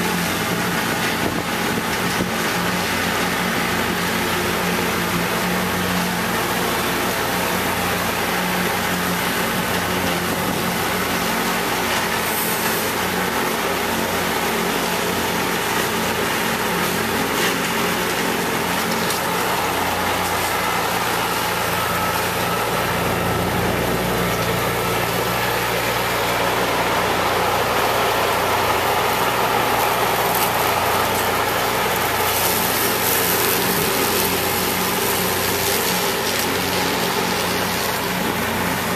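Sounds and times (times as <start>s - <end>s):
rotary cutter mowing weeds: 0.0s - 38.9s
tractor diesel engine running: 0.0s - 38.9s.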